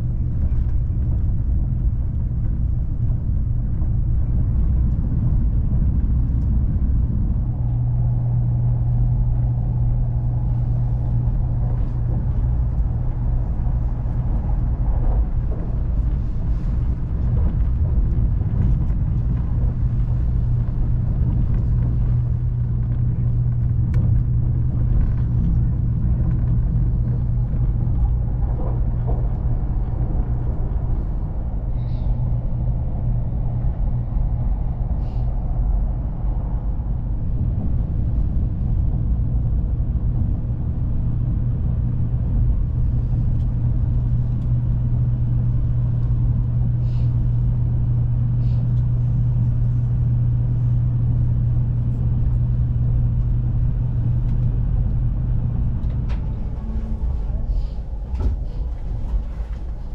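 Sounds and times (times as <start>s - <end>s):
train rumble inside cabin: 0.0s - 59.9s.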